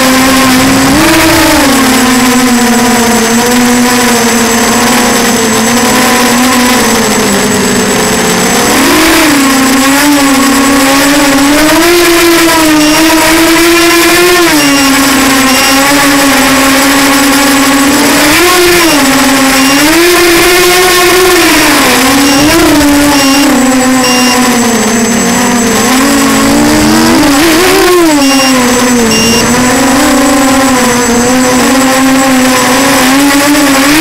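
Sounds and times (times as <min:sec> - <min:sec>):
drone motors buzzing whine: 0:00.0 - 0:34.0.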